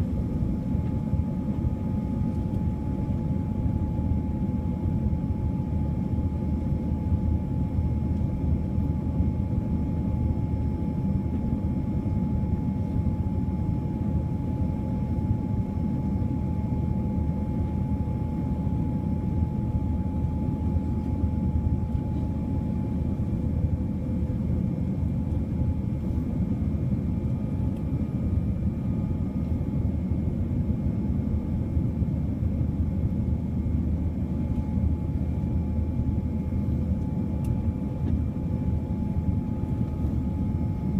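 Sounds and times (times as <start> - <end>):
airliner cabin rumble: 0.0 - 40.9
faint high whine: 0.0 - 40.9.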